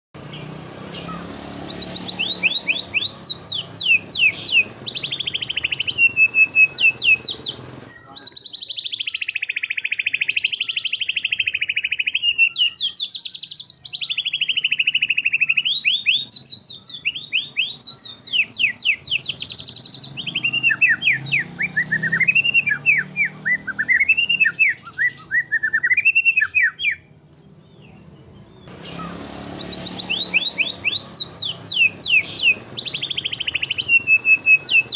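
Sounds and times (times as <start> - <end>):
bird singing trills and whistles: 0.2 - 34.9.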